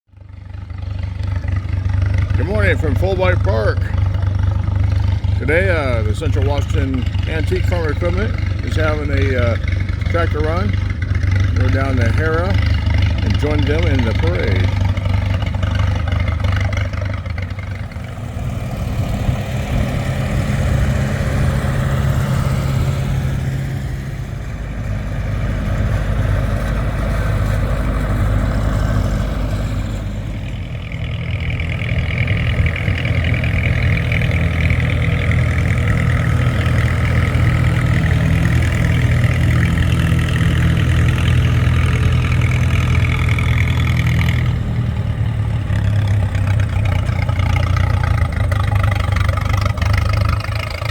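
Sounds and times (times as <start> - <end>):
tractor engines droning: 0.1 - 50.9.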